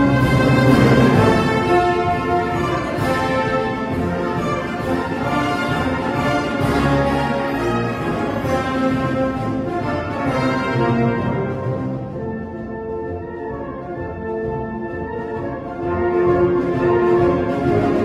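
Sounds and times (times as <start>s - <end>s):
wind band playing a march: 0.0s - 18.0s.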